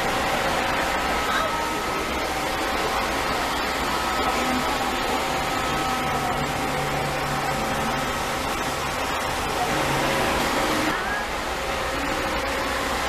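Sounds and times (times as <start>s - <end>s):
bus air conditioning hum: 0.0s - 13.0s
bus engine idling: 0.0s - 13.0s.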